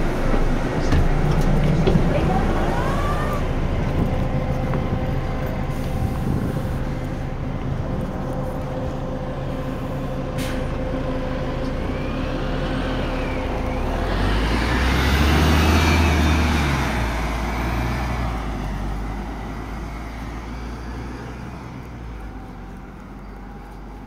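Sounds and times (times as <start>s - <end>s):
bus engine pulling away: 0.0s - 24.0s.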